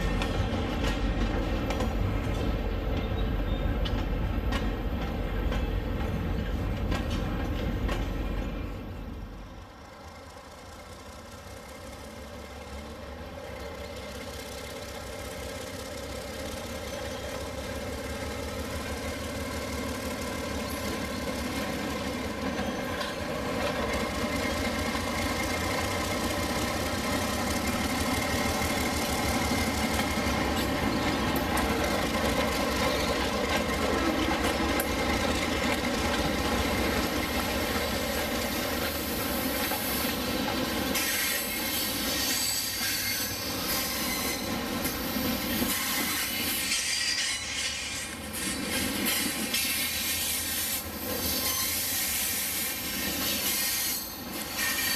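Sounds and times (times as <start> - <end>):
model diesel locomotive engine: 0.0 - 54.9.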